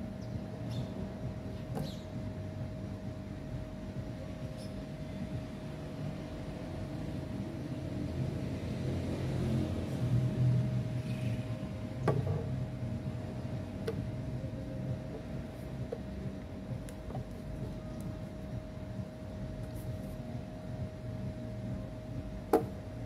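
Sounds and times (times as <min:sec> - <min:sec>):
machine hum and whine: 0:00.0 - 0:23.0.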